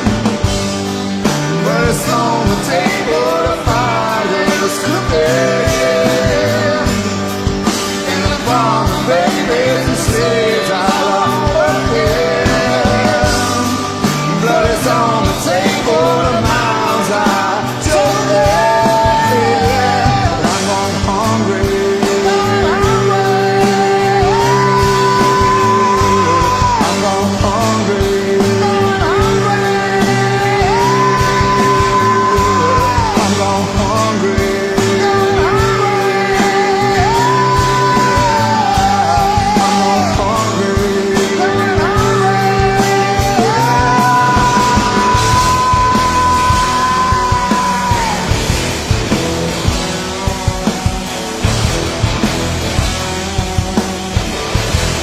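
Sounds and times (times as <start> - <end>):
live rock band playing: 0.0 - 55.0
person singing long notes: 1.5 - 51.8.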